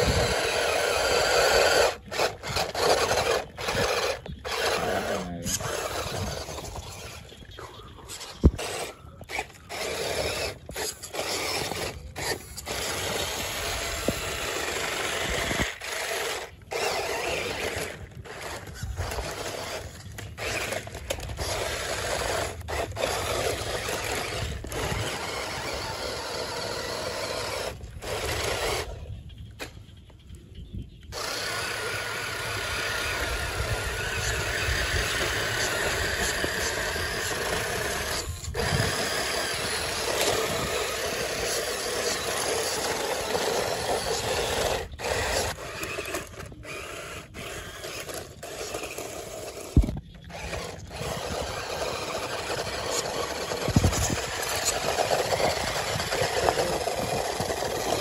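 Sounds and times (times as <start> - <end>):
toy car electric motor whining: 0.0 - 29.3, 31.1 - 58.0.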